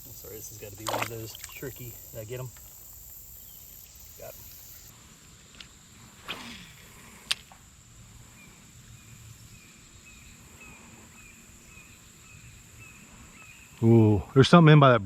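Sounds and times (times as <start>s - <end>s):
high insect drone: 0.0s - 14.2s.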